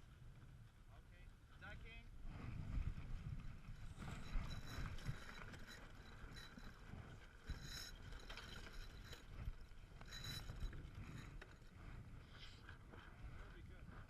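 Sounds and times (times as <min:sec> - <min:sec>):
wind rumbling on microphone: 0:01.7 - 0:14.0.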